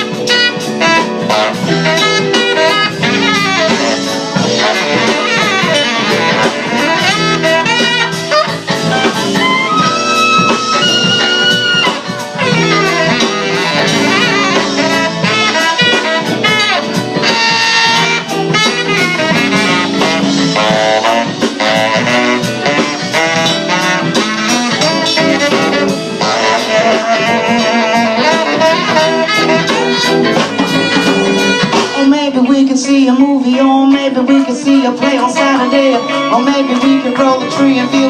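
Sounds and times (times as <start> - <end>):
saxophone solo: 0.0 - 32.8, 33.4 - 38.0
guitar: 0.0 - 38.0
steady drum beat: 0.0 - 38.0.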